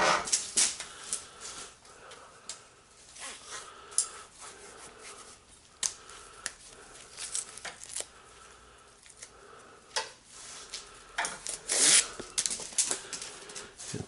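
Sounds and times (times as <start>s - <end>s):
wires rustling and scraping: 0.0s - 9.3s, 10.0s - 14.0s.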